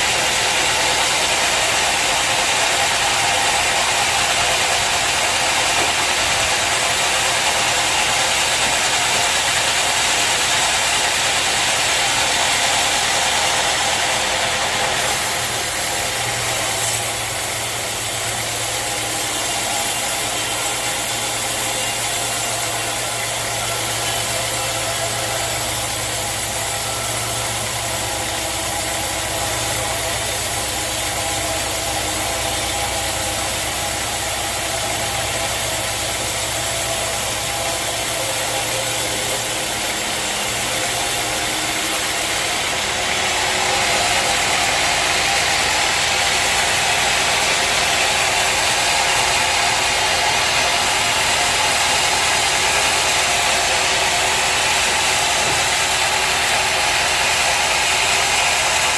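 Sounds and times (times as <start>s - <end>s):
sawmill machinery humming: 0.0s - 58.9s.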